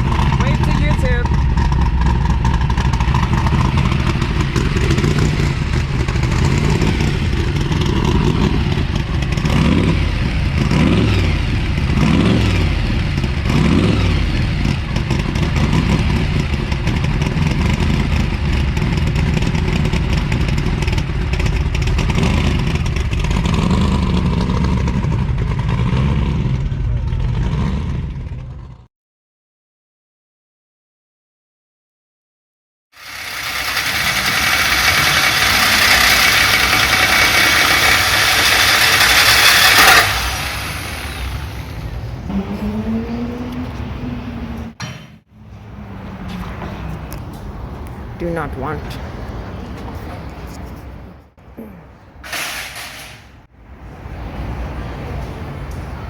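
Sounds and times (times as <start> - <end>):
car engines revving: 0.0 - 28.9, 33.0 - 52.3, 53.4 - 56.0.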